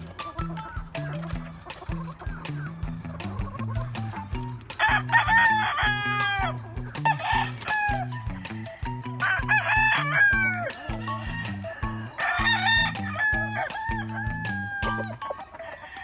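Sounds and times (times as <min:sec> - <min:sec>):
background music with bass line: 0:00.0 - 0:15.3
roosters crowing: 0:00.0 - 0:16.0.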